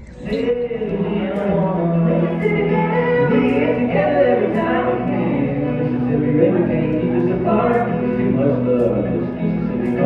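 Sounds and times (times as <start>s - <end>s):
voices singing together: 0.2s - 10.0s.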